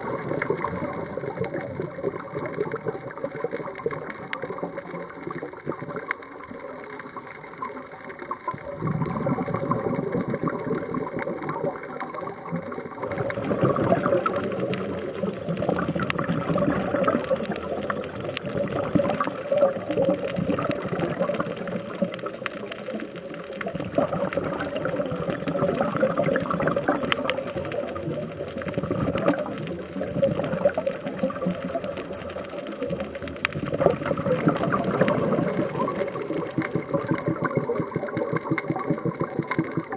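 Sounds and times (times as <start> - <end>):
diver's exhaled bubbles rushing: 0.0 - 7.1, 7.7 - 22.4, 23.3 - 39.9
crackle of reef clicks: 0.0 - 39.9.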